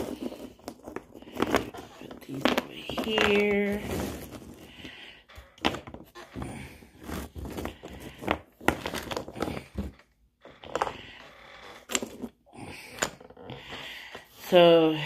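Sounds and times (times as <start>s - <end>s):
rustling: 0.0s - 12.3s.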